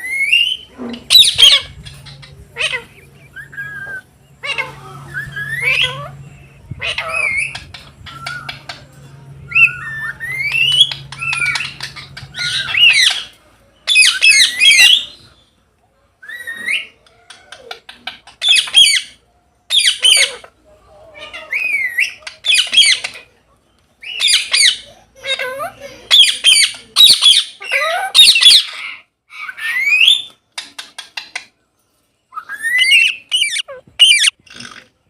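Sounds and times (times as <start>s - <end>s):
parrots squawking: 0.0s - 15.4s, 16.2s - 23.4s, 24.0s - 31.5s, 32.3s - 34.9s.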